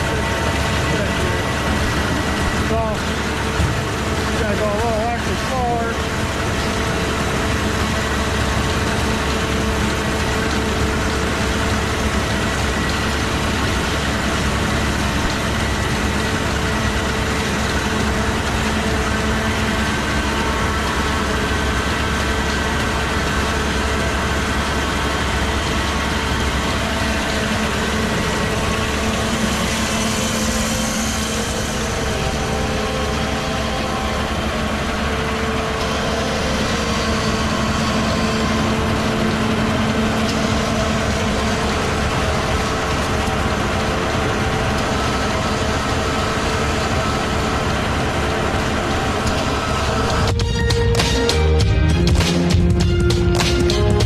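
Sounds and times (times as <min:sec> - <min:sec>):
pitched hums: 0:00.0 - 0:54.0
tractor engine drone: 0:00.0 - 0:54.0.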